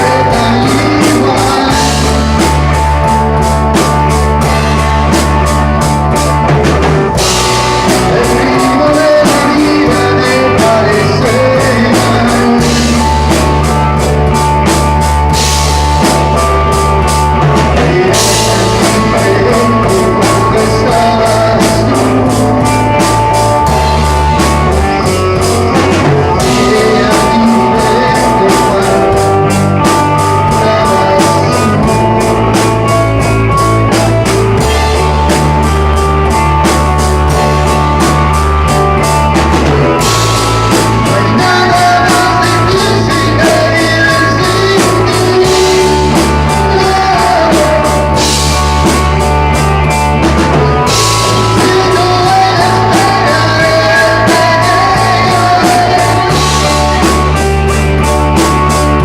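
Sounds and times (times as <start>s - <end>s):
drum kit steady beat: 0.0s - 59.0s
rock band playing: 0.0s - 59.0s.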